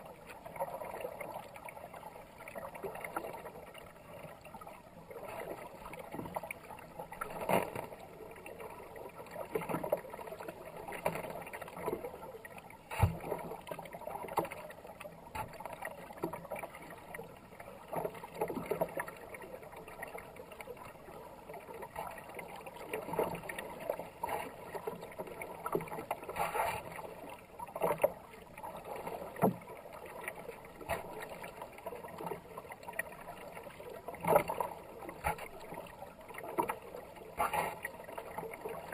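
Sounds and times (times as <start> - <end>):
paddle strokes splashing: 0.0 - 38.9
rushing river water: 0.0 - 38.9.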